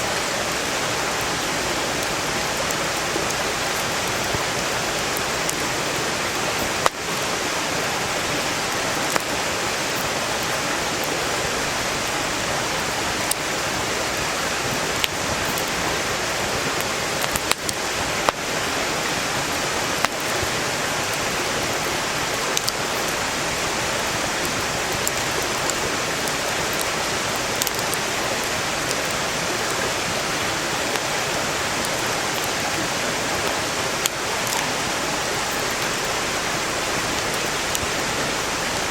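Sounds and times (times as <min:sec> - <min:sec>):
stream rushing: 0:00.0 - 0:38.9
campfire pops and cracks: 0:00.5 - 0:11.2, 0:12.8 - 0:18.5, 0:19.5 - 0:29.9, 0:30.8 - 0:38.0.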